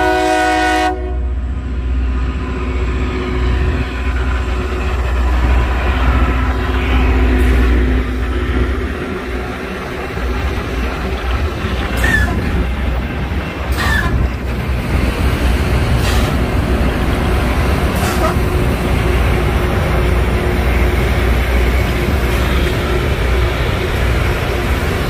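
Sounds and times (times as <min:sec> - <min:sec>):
harsh grinding on rail: 0:00.0 - 0:25.0
train rumbling: 0:00.0 - 0:25.0.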